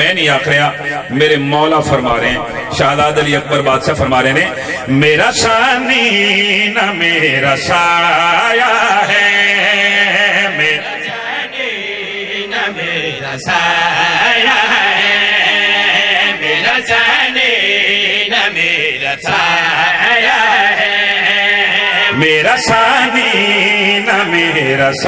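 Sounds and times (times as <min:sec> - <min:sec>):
men chanting through loudspeakers: 0:00.0 - 0:25.0.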